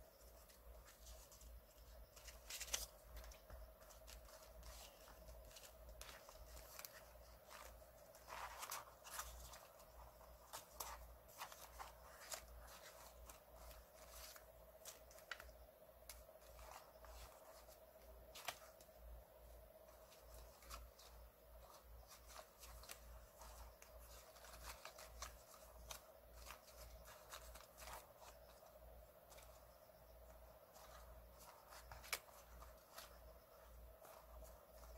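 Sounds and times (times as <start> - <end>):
faint steady hum: 0.0 - 34.9
paper cards flicking and rustling: 0.1 - 19.2, 19.8 - 34.9.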